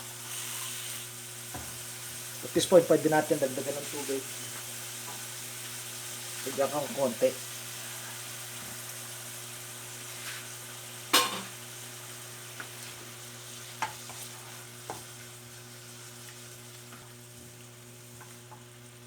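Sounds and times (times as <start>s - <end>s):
vegetables sizzling in a pan: 0.0s - 19.0s.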